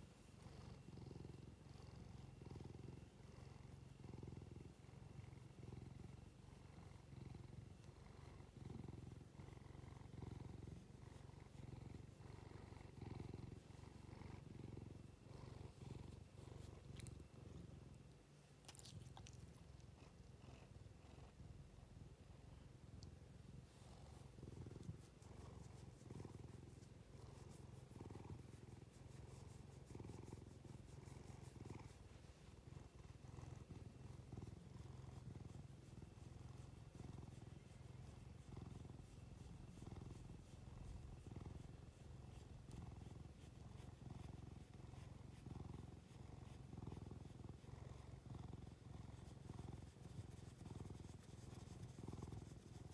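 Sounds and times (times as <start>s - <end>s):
cat purring: 0.0s - 52.9s.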